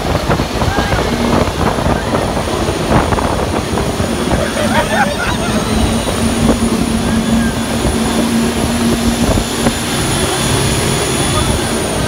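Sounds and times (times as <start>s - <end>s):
boat engine and water rush: 0.0s - 12.0s
steady hum: 0.0s - 12.0s.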